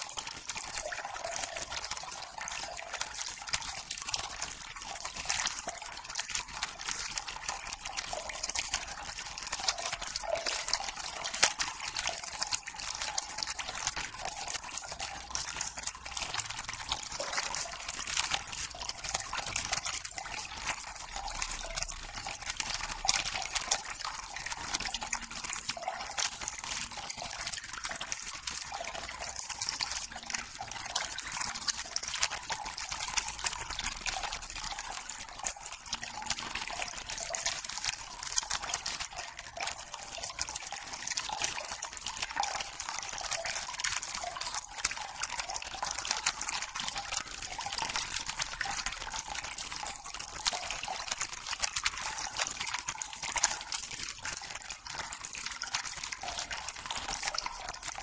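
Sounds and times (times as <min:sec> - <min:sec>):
small irregular clicks: 0:00.0 - 0:58.0.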